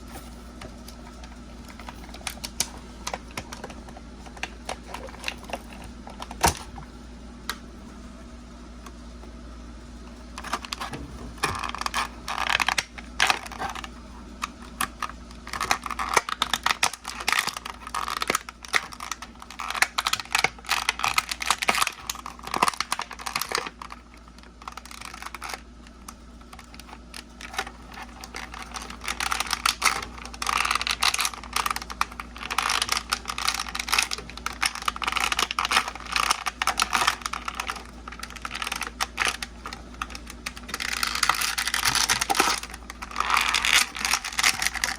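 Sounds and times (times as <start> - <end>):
packaging crinkling: 0.0 - 6.9, 10.3 - 44.9.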